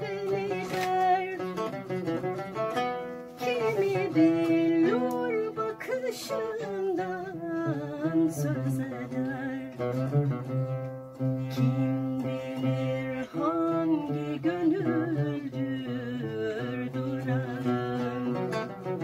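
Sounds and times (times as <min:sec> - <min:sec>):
woman singing: 0:00.0 - 0:10.6, 0:11.2 - 0:19.0
oud plucked: 0:00.0 - 0:19.0.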